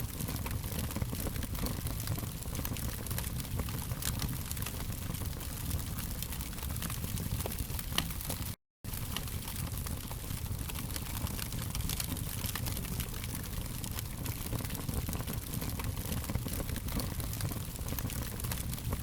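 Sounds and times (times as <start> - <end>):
fire crackling: 0.0 - 19.0.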